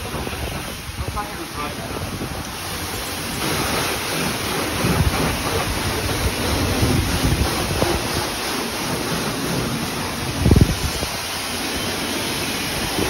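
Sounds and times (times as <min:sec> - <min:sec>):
wind on microphone: 0:00.0 - 0:11.3
pressure washer spraying car: 0:00.0 - 0:13.0.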